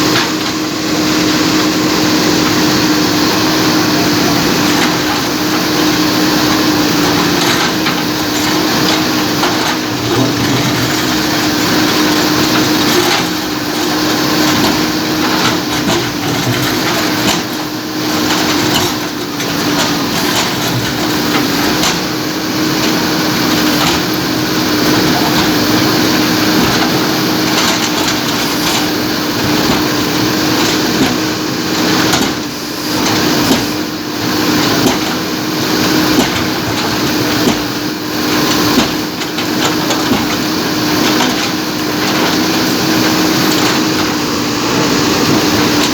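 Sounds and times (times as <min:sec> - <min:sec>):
diesel engine under load: 0:00.0 - 0:45.9
engine whine: 0:00.0 - 0:45.9.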